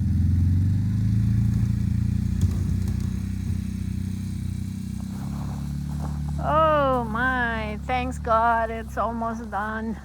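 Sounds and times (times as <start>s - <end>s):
engine running under load: 0.0s - 10.0s.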